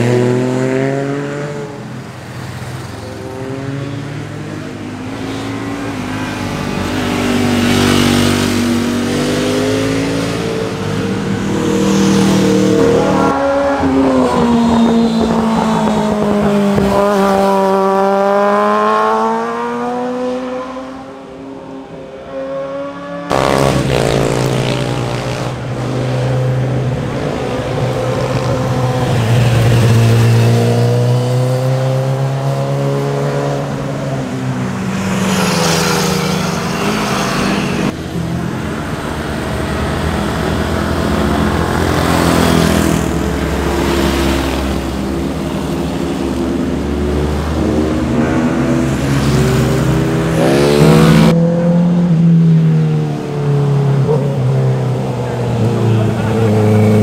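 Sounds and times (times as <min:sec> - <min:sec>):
sport motorcycles revving past: 0:00.0 - 0:38.0, 0:38.9 - 0:57.0.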